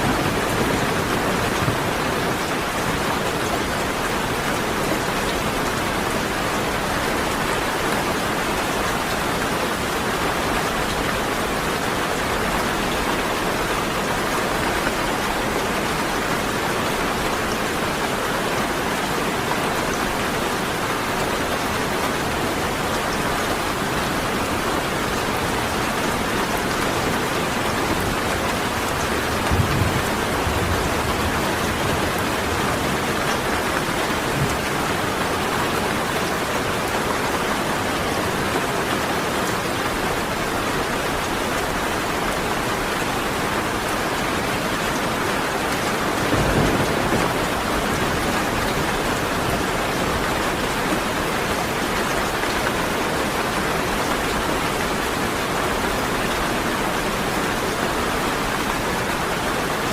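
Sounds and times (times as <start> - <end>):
heavy rain pattering: 0.0 - 59.9.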